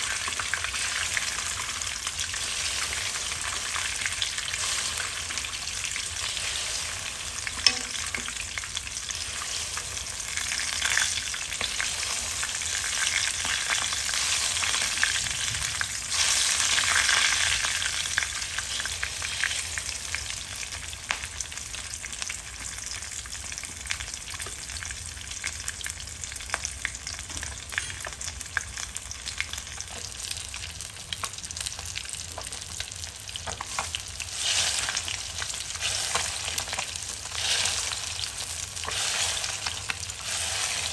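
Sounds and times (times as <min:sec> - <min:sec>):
fish sizzling in hot oil: 0:00.0 - 0:40.9.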